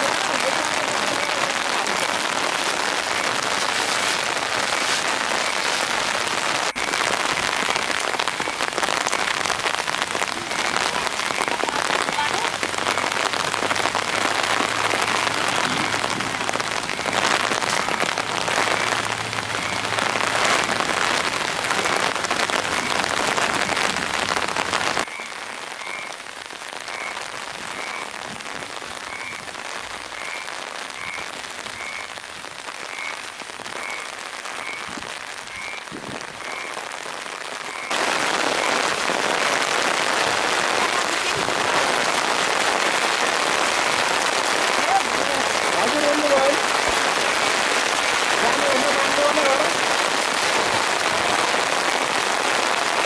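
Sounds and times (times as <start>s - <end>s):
rain hissing on water: 0.0s - 53.0s.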